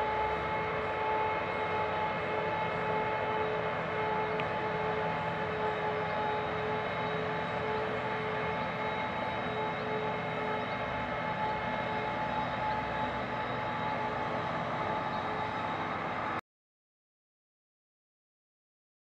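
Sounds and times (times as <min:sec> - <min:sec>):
heavy machinery drone: 0:00.0 - 0:16.4
steady machine whine: 0:00.0 - 0:16.4.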